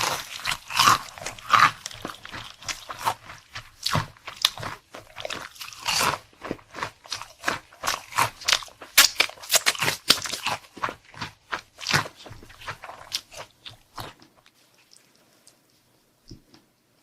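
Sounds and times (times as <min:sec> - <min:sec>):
chewing crunchy food: 0:00.0 - 0:16.5.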